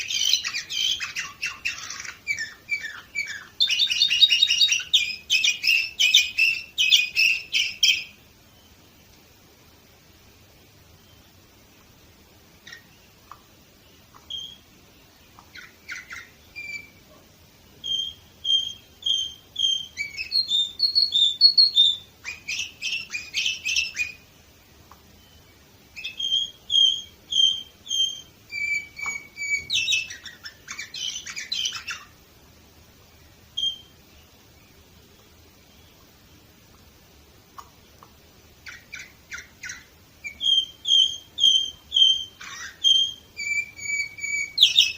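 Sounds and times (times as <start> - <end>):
canary singing: 0.0 - 8.9, 10.9 - 32.3, 33.2 - 36.9, 37.5 - 44.9.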